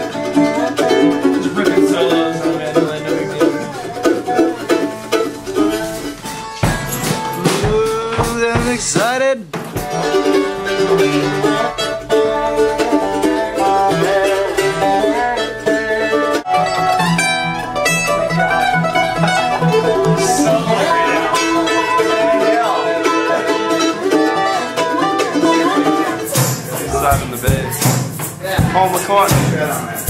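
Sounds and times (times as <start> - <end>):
acoustic string-band music: 0.0 - 30.0.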